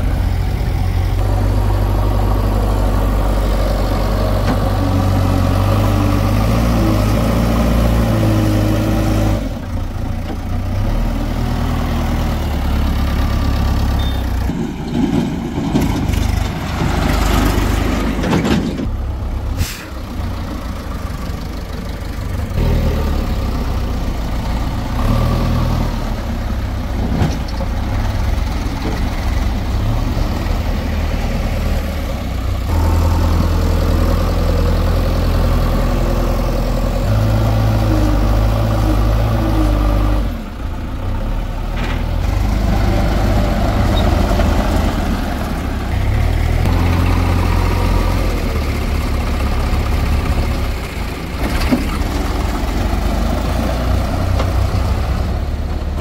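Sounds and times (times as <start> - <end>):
heavy diesel engines idling: 0.0 - 56.0.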